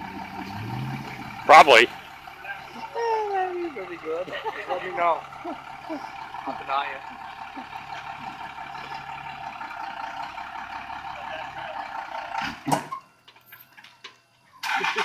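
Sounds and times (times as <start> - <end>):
truck engine running: 0.0 - 15.0
winch hauling line: 0.0 - 15.0.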